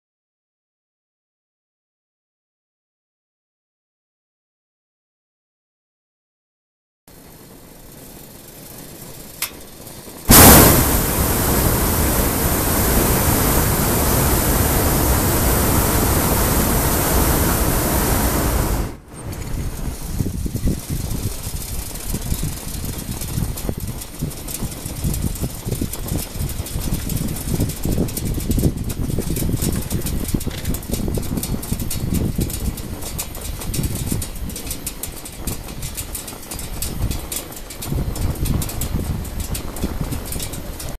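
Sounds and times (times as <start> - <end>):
propane burner blast: 7.2 - 40.9.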